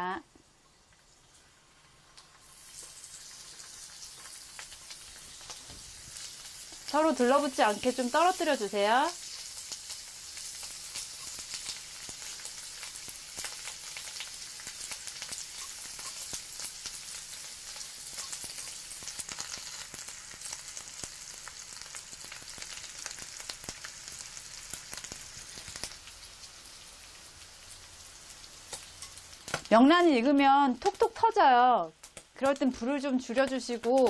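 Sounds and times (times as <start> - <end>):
roe sizzling in oil: 0.0 - 34.0.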